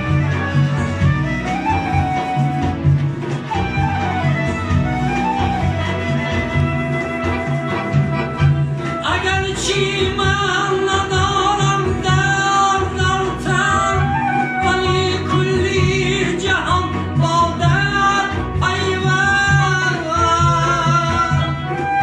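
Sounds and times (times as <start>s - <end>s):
instrumental accompaniment with beat: 0.0s - 22.0s.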